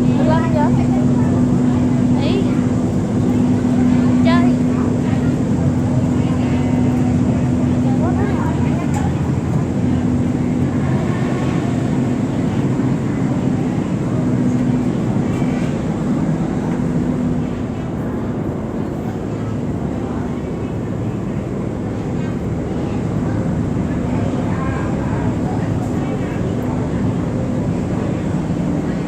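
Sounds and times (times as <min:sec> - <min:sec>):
ferry engine droning: 0:00.0 - 0:29.0.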